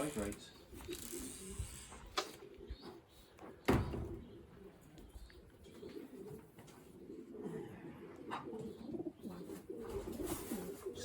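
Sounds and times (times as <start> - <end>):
pigeons cooing softly: 0.5 - 11.0.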